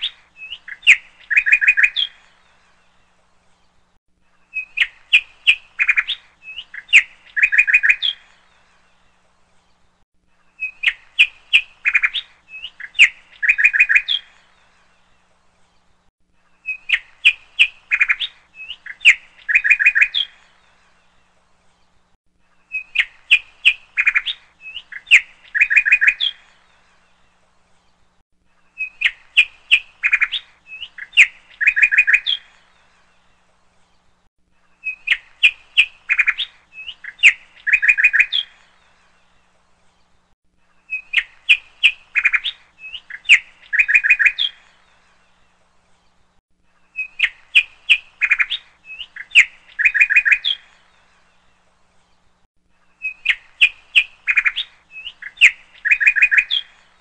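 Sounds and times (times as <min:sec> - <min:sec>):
songbird chirping and trilling: 0:00.0 - 0:57.0.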